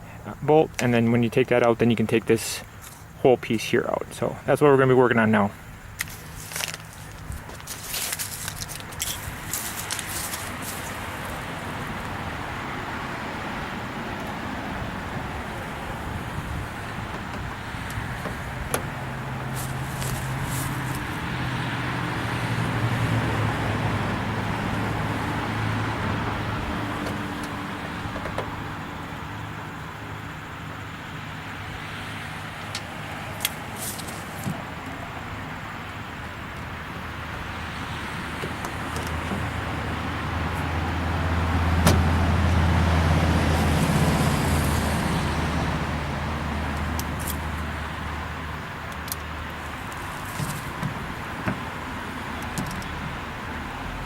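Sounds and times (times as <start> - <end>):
rumble of road vehicles: 0.0 - 54.0.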